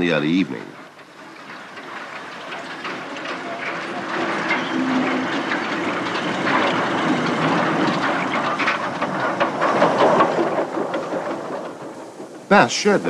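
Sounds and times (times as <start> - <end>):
rolling stock clanks and knocks: 0.0 - 13.0
steam hiss and exhaust: 0.0 - 13.0.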